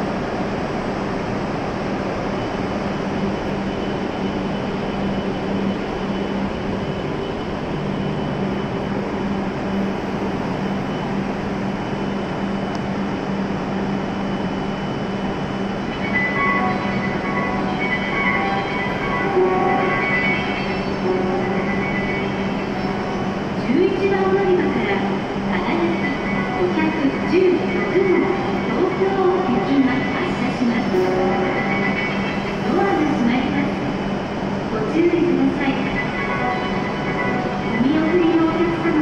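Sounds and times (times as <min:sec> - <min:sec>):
train humming and hissing: 0:00.0 - 0:39.0.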